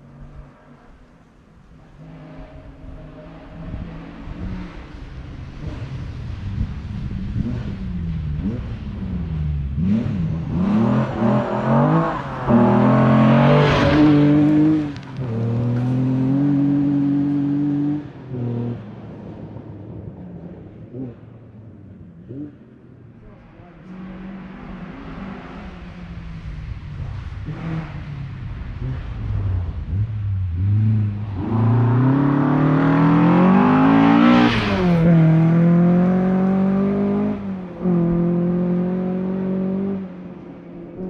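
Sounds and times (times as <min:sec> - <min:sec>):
rally car engine revving: 0:00.0 - 0:19.5, 0:22.2 - 0:41.0
gravel and tyre noise: 0:00.0 - 0:41.0.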